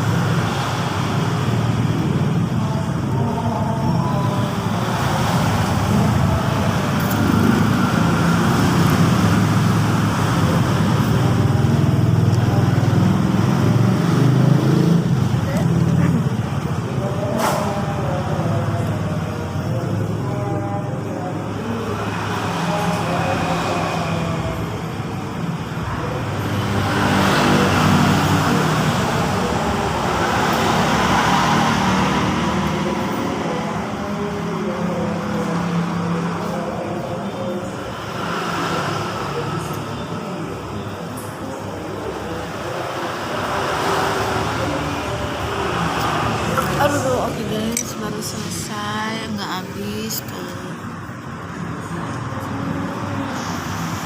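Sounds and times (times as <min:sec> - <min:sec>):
passing vehicles: 0:00.0 - 0:54.0.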